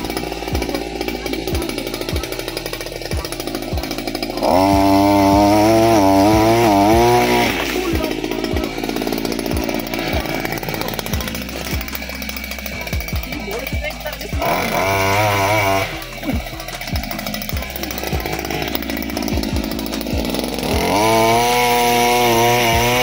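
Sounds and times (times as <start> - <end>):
music with steady beat: 0.0 - 23.0
small two-stroke engine running: 0.0 - 23.0.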